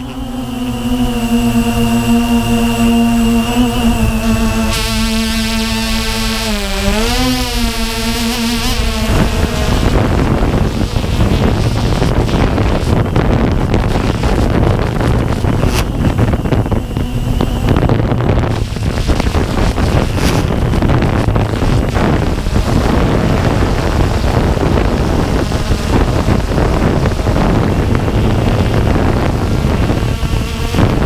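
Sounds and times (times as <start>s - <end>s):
drone motors and propellers: 0.0s - 31.0s
wind buffeting microphone: 0.0s - 31.0s.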